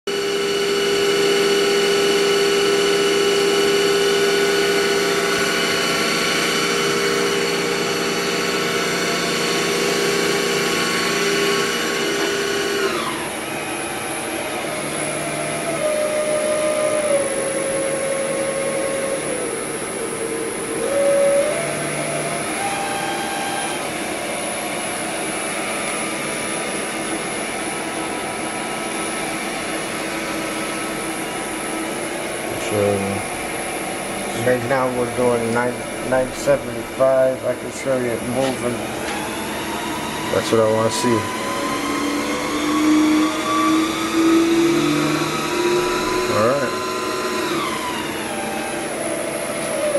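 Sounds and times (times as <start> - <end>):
milling machine whine: 0.1 - 49.9.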